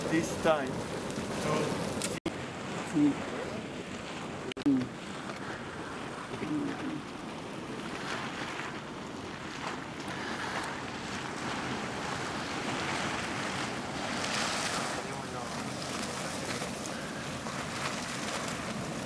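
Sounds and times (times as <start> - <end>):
boiling water churning and hissing: 0.0 - 19.0.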